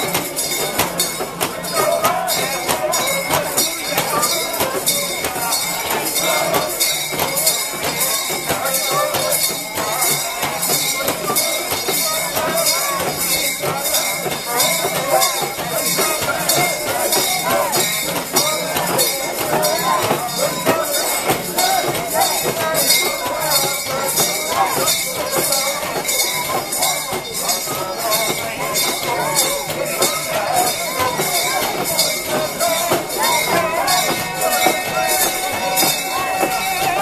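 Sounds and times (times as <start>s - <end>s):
crowd voices: 0.0s - 37.0s
metallic jangling of rings: 0.0s - 37.0s
people shouting: 0.0s - 37.0s.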